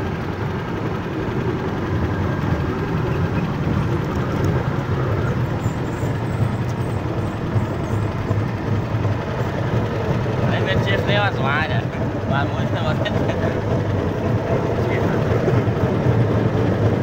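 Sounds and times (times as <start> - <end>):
small engine running: 0.0 - 17.0
wheels rumbling on track: 0.0 - 17.0.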